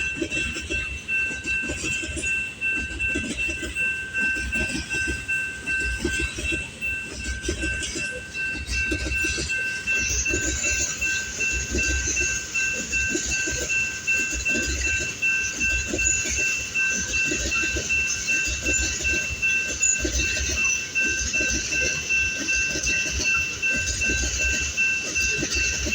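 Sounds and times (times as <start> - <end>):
steady high tones: 0.0 - 25.9
train wheels clattering over joints: 0.0 - 25.9.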